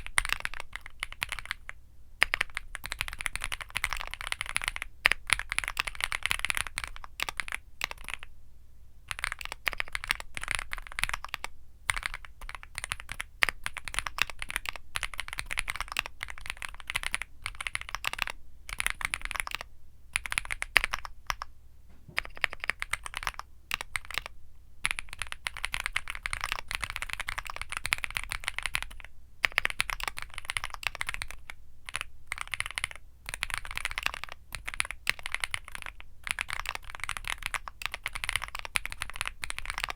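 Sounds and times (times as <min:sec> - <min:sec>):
mechanical keyboard typing: 0:00.0 - 0:08.3, 0:09.1 - 0:21.5, 0:22.2 - 0:39.9.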